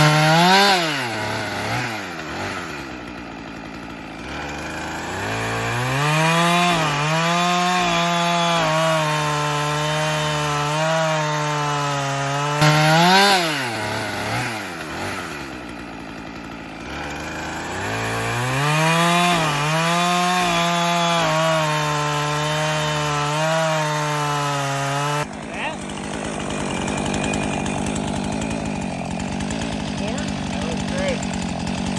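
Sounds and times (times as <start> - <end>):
chainsaw revving and cutting wood: 0.0 - 31.9.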